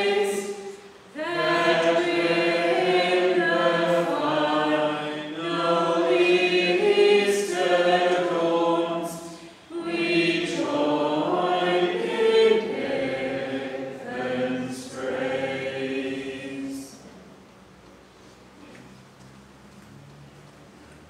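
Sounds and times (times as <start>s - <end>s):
voices singing a hymn: 0.0s - 17.2s.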